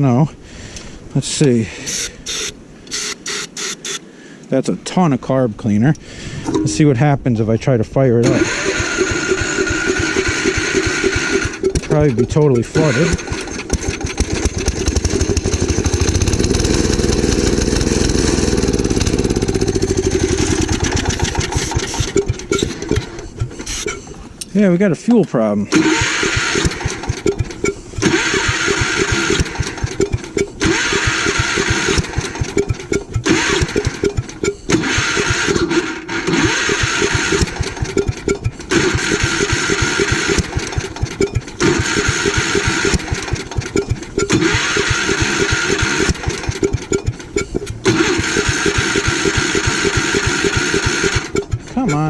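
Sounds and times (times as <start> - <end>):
engine cranking and sputtering: 8.2 - 52.0.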